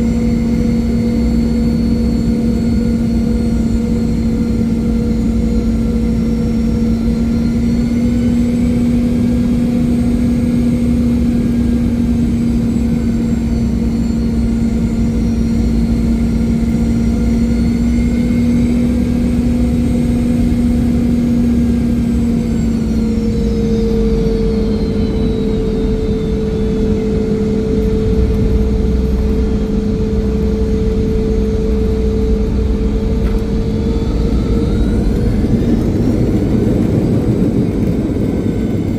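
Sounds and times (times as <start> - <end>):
aircraft cabin engine rush: 0.0 - 38.9
engine whines: 0.0 - 38.9.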